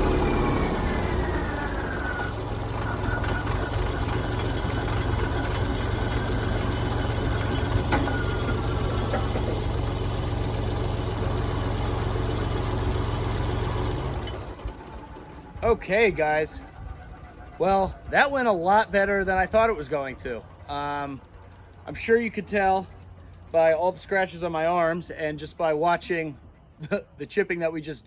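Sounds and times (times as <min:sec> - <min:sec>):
wood chipper whine: 0:00.0 - 0:27.2
tractor diesel engine idling: 0:00.0 - 0:28.0.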